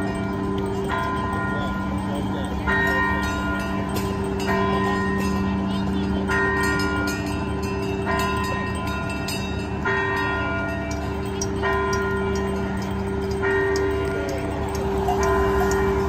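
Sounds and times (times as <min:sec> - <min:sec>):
bell struck: 0:00.0 - 0:16.0.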